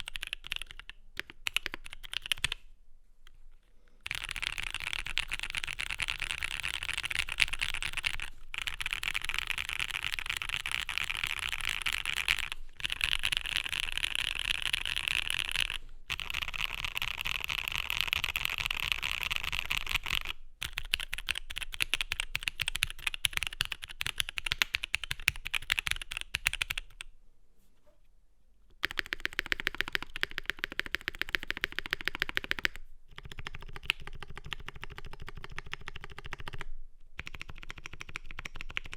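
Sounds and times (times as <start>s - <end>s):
mechanical keyboard typing: 0.0s - 2.6s, 4.0s - 27.1s, 28.8s - 38.9s.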